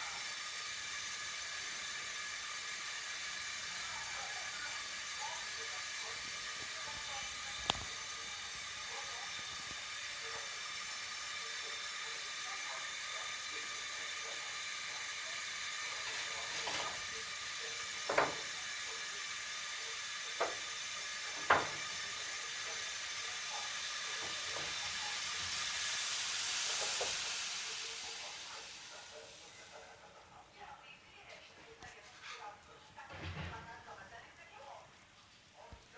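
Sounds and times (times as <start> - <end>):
milk boiling in a pot: 0.0 - 30.4.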